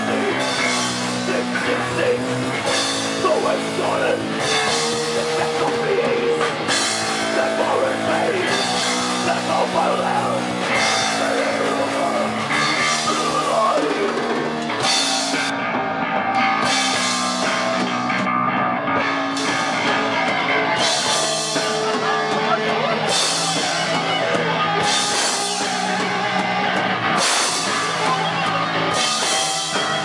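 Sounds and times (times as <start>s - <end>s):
fast drum kit and cymbals: 0.0s - 15.8s, 16.4s - 18.3s, 19.0s - 30.0s
distorted electric guitars: 0.0s - 30.0s.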